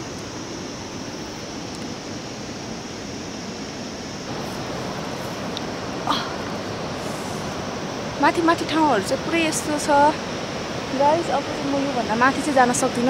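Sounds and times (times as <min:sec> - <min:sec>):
steady outdoor rushing noise: 0:00.0 - 0:13.0.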